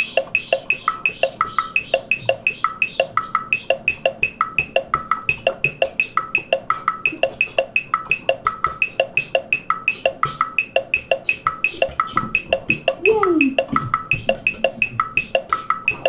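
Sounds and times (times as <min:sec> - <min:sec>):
clicky percussion loop: 0:00.0 - 0:16.0.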